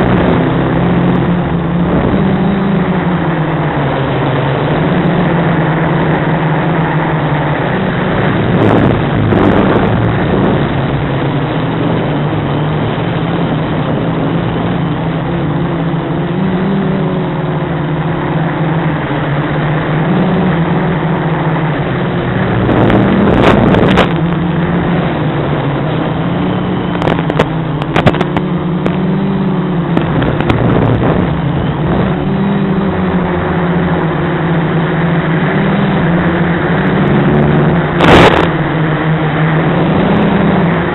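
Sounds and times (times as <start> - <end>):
drone motors humming: 0.0 - 40.9
rushes of noise: 0.0 - 40.9.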